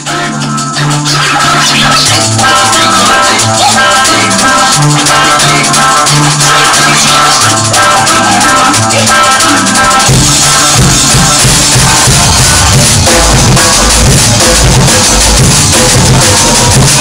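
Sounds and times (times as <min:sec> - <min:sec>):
drum kit playing: 0:00.0 - 0:17.0
loud reggae music: 0:00.0 - 0:17.0.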